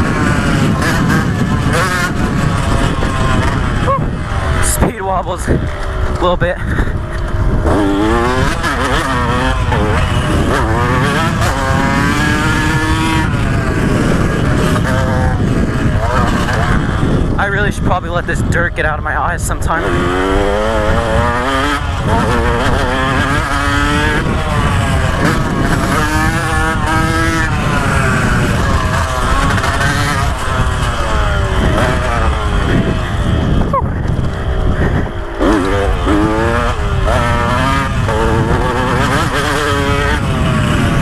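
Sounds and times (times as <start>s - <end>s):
dirt bike engine revving: 0.0s - 41.0s
wind buffeting microphone: 0.0s - 41.0s.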